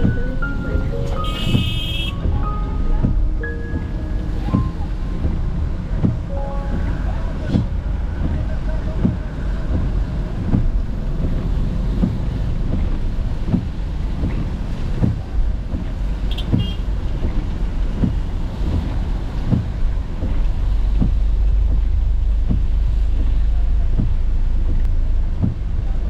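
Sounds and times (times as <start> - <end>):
rain and traffic rumble: 0.0 - 26.0
windscreen wipers knocking: 0.0 - 26.0.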